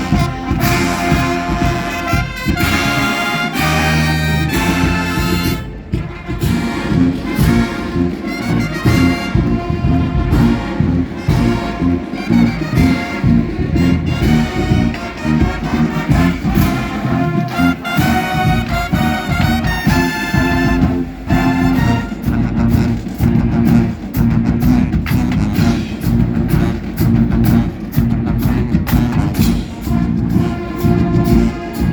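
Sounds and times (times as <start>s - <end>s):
marching band playing: 0.0s - 31.9s
steady drum beat: 0.0s - 31.9s
trumpets and trombones: 0.0s - 31.9s.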